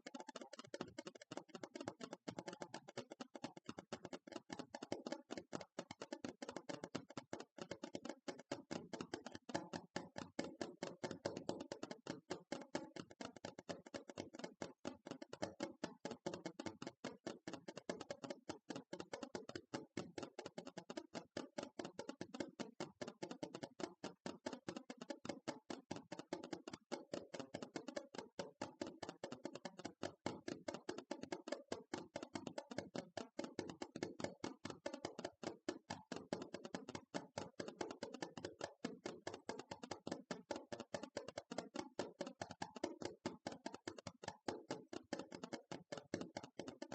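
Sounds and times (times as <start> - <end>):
fast taps on hard object: 0.0 - 46.9.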